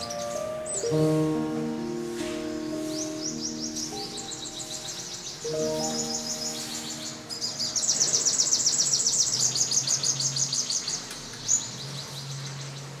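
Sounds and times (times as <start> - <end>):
small bird trilling chirps: 0.0 - 13.0.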